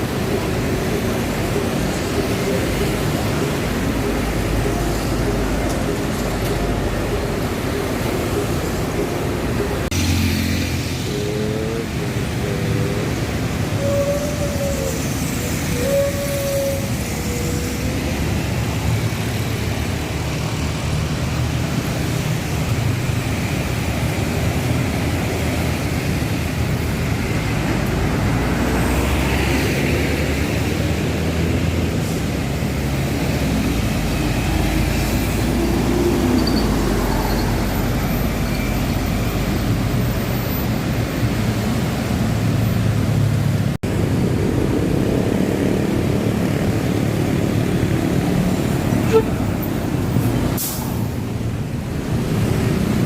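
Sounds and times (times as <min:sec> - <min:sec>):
bus engines running: 0:00.0 - 0:53.0
city street traffic: 0:00.0 - 0:53.0.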